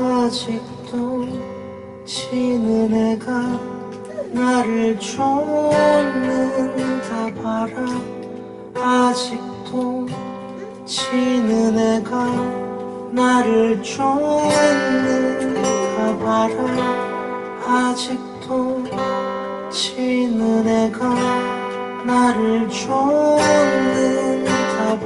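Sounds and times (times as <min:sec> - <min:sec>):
man singing: 0:00.0 - 0:08.2, 0:08.8 - 0:19.0, 0:19.7 - 0:25.0
acoustic guitar strumming: 0:00.0 - 0:25.0.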